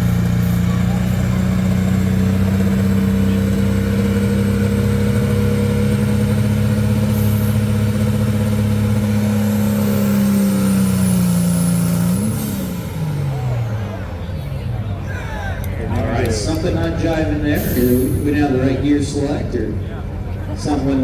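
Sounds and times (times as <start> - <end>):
truck engine at high revs: 0.0 - 21.0.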